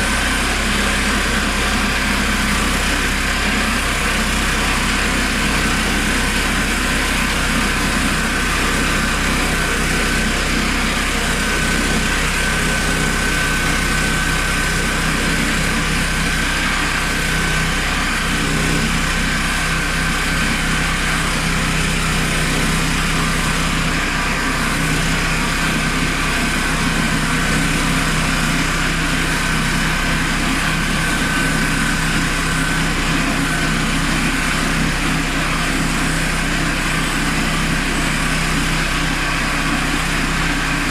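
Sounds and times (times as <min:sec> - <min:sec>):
petrol engine running: 0:00.0 - 0:40.9.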